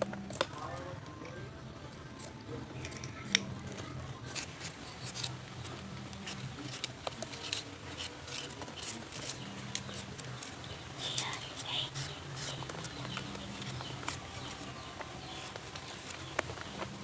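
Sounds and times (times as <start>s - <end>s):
crab shell cracking and chewing: 0.0s - 0.9s, 2.9s - 17.0s.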